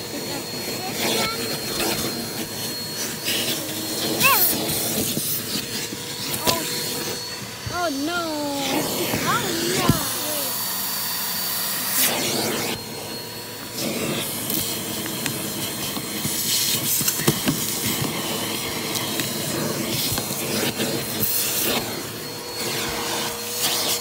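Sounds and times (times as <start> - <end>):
vacuum cleaner on fabric upholstery: 0.0 - 24.0.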